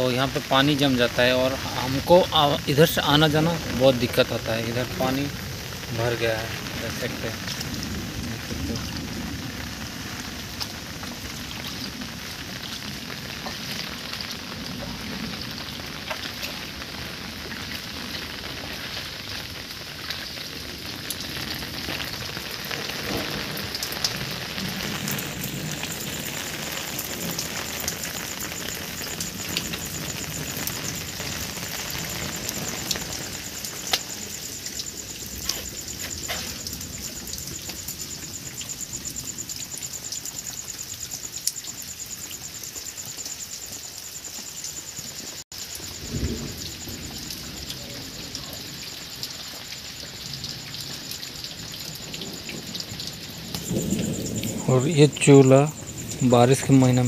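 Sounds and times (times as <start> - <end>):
heavy rain falling: 0.0 - 57.0
raindrops ticking: 0.0 - 57.0.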